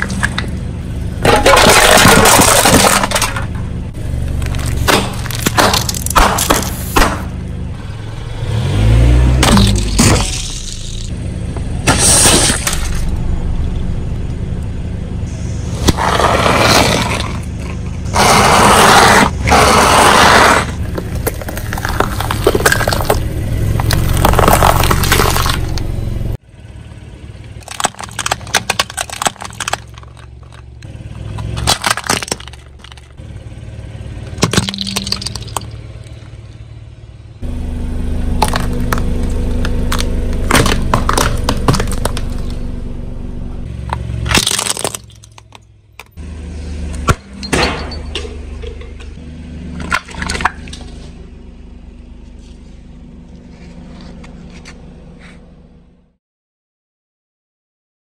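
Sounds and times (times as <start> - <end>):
car tyre crushing objects: 0.0 - 56.1
car engine running: 0.0 - 56.2.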